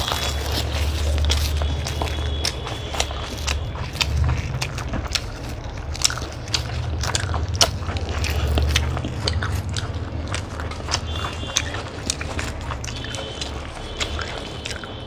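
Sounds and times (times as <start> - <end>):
chewing and biting: 0.0 - 15.0
steady low hum: 0.0 - 15.0.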